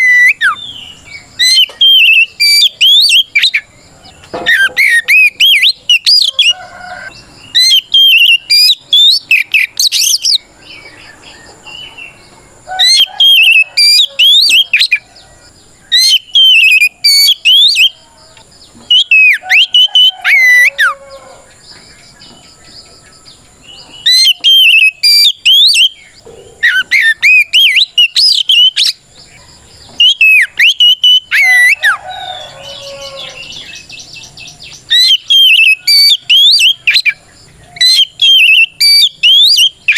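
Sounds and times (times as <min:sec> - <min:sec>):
magpie-robin singing whistled notes: 0:00.0 - 0:15.0, 0:15.9 - 0:18.1, 0:18.8 - 0:21.0, 0:23.6 - 0:29.0, 0:29.9 - 0:32.0, 0:32.8 - 0:37.2, 0:37.8 - 0:39.9.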